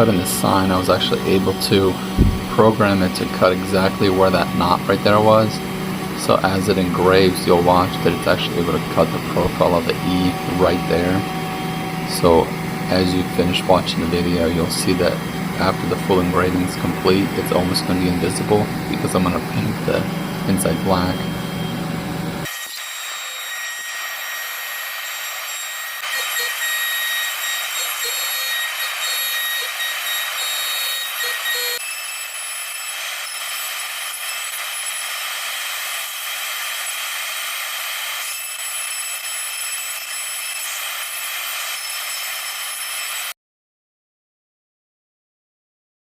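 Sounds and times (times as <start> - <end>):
router spindle whining: 0.0 - 40.8.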